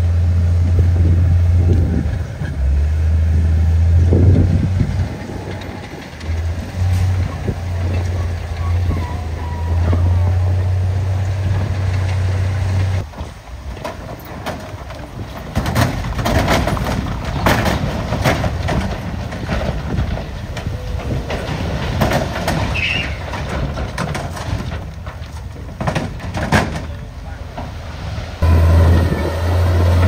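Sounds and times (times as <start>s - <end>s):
truck engine humming: 0.0s - 30.0s.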